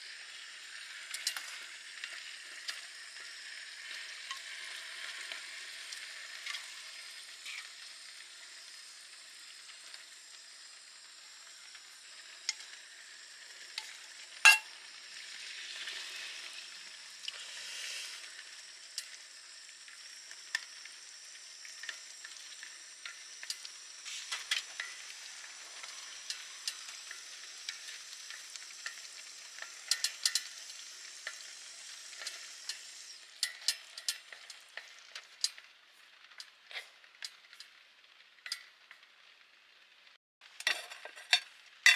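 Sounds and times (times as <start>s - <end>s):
meat and egg sizzling in pot: 0.0s - 41.9s.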